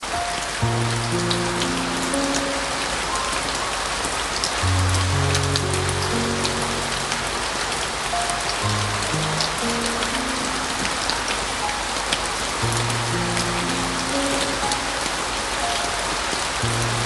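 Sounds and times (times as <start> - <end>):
heavy rain falling: 0.0 - 17.0
raindrops ticking: 0.0 - 17.0
slow piano music: 0.0 - 17.0.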